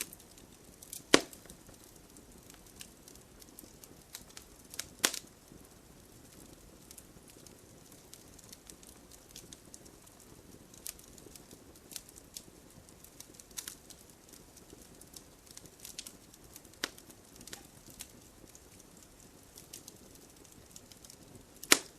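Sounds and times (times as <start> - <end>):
logs crackling and popping: 0.0 - 21.9
soft low fire hiss: 0.0 - 21.9.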